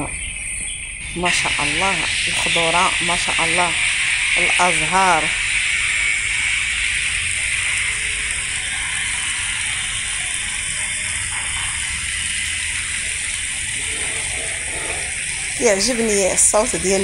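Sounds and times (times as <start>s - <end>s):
fountain water splashing: 1.2s - 17.0s.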